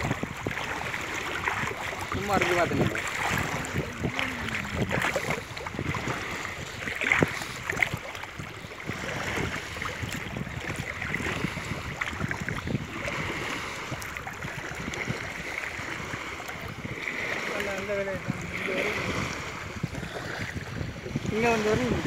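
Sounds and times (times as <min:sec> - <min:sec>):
legs wading through shallow water: 0:00.0 - 0:22.0.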